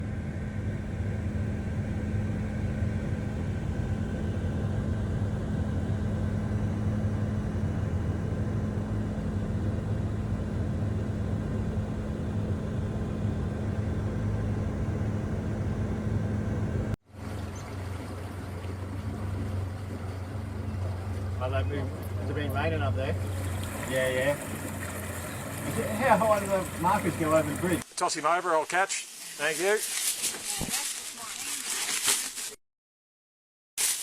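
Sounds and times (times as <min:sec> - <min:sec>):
engine drone: 0:00.0 - 0:27.8.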